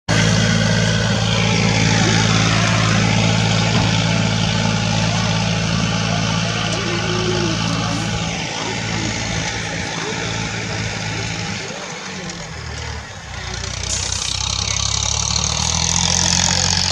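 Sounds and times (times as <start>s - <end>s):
engine humming: 0.0s - 16.9s.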